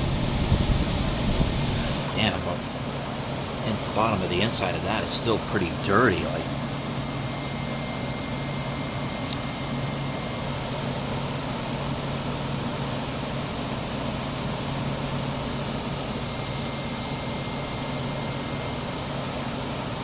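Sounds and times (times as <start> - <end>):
air conditioner fan rushing: 0.0 - 20.0
compressor humming: 0.0 - 20.0.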